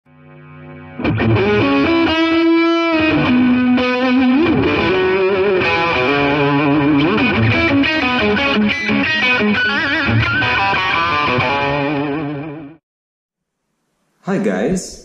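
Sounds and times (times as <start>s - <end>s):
distorted electric guitar lead: 0.1s - 12.8s.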